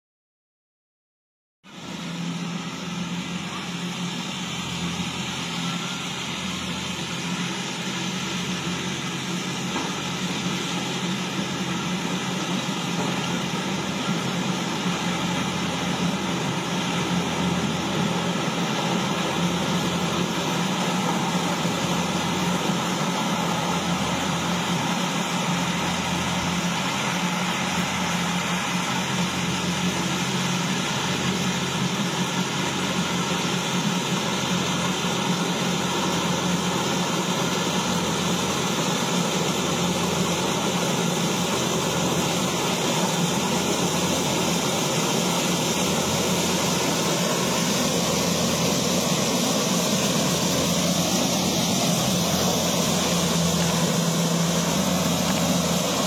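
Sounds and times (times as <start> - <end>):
combine harvester running: 1.7 - 56.0.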